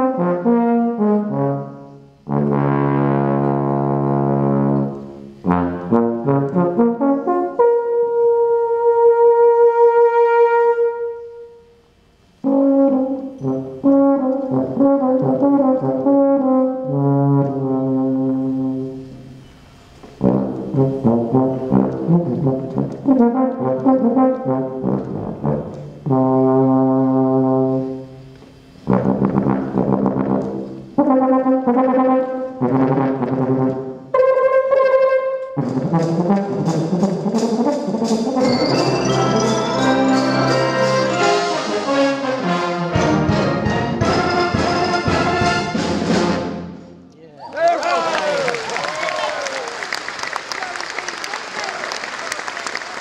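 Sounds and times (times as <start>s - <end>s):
brass band playing: 0.0s - 47.0s.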